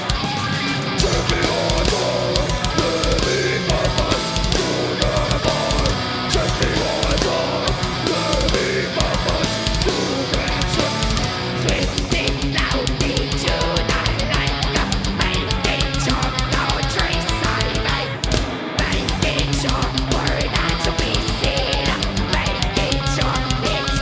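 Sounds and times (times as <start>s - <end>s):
metal band playing live: 0.0s - 24.0s
rapid kick drum beats: 1.0s - 24.0s.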